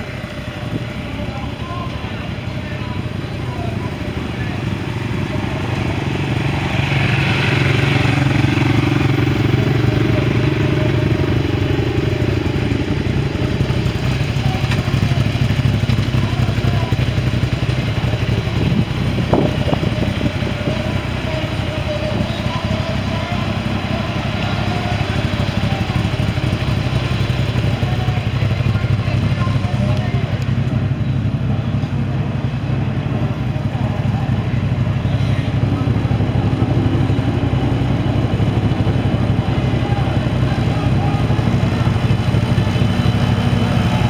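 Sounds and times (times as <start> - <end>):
race car engines idling: 0.0 - 44.0.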